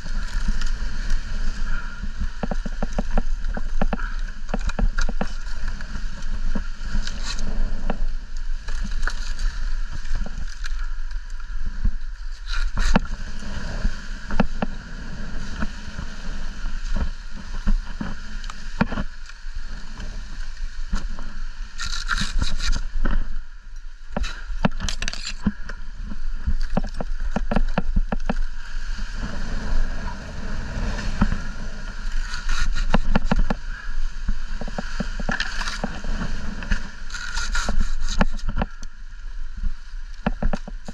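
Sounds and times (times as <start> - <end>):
dry palm fronds scraping and crackling: 0.0 - 40.9
wind buffeting microphone: 0.0 - 40.9.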